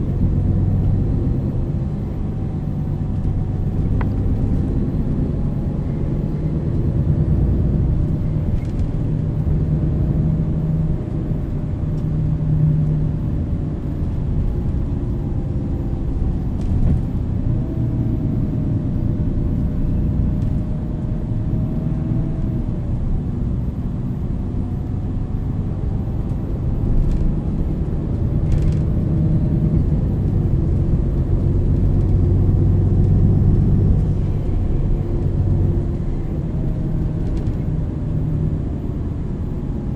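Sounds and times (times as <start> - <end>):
bus engine rumble with whine: 0.0 - 39.9.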